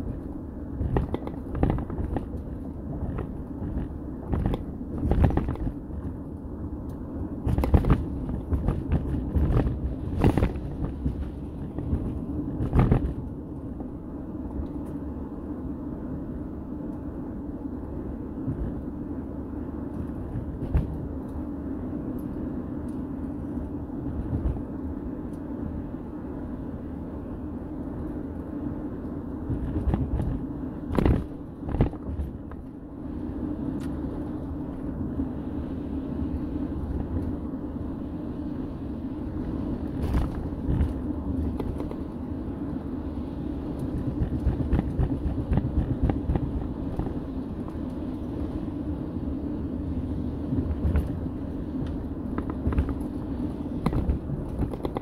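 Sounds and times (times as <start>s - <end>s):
vehicle engine and road drone: 0.0s - 55.0s.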